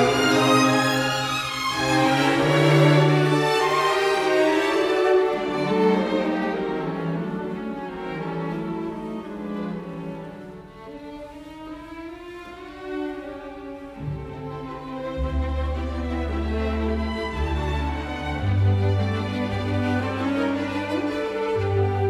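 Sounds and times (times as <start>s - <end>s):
slow bowed string melody: 0.0s - 22.0s.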